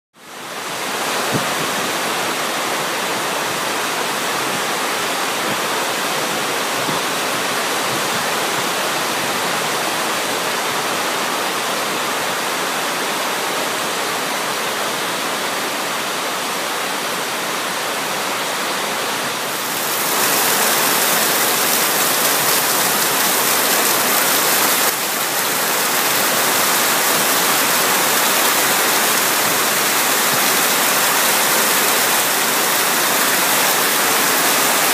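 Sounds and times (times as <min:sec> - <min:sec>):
heavy rain falling on water: 0:00.2 - 0:34.9.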